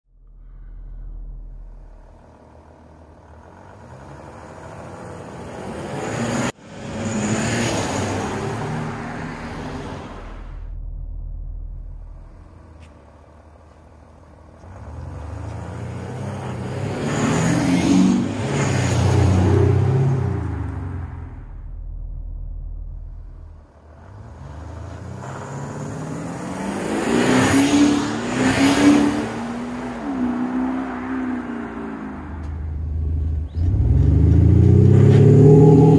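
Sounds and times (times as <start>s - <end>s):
car engine accelerating: 0.1s - 35.9s.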